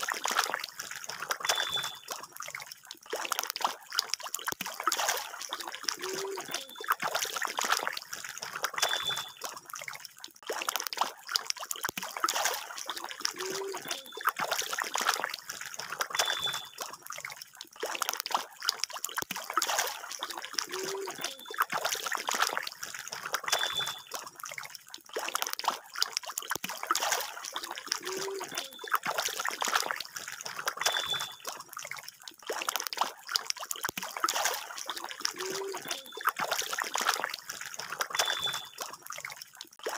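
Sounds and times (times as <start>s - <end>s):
fish splashing in pond water: 0.0s - 39.9s.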